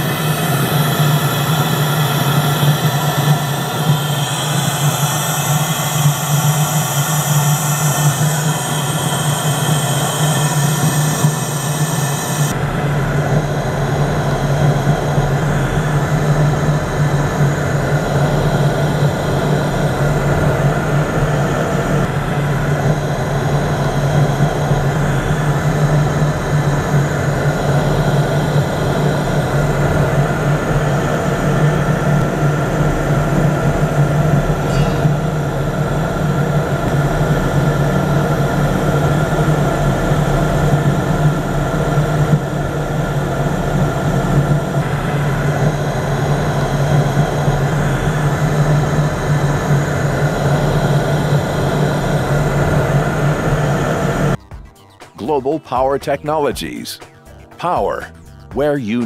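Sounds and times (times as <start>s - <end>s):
fuel burner hum and rush: 0.0s - 54.4s.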